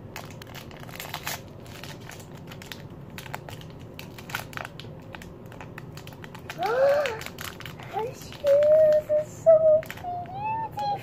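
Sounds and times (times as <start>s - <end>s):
foil wrapper crackling: 0.0s - 11.0s.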